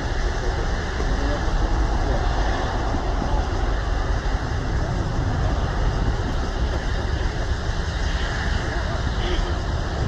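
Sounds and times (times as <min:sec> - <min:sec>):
jet engines roaring on takeoff: 0:00.0 - 0:10.0.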